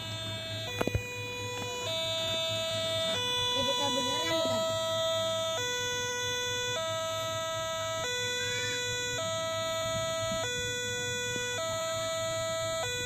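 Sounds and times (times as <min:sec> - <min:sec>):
two-tone crossing alarm: 0:00.0 - 0:13.0.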